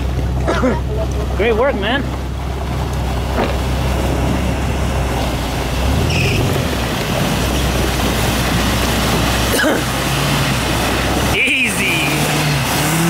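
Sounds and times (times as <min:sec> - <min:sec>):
engine running under load: 0:00.0 - 0:13.0
water splashing: 0:00.0 - 0:13.0
spinning tyres rushing: 0:01.4 - 0:13.0.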